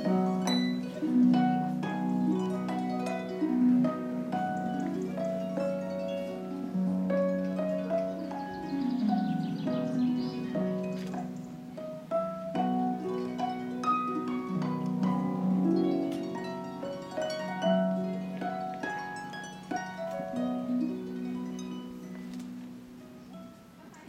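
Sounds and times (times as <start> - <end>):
harp plucked notes: 0.0 - 24.0.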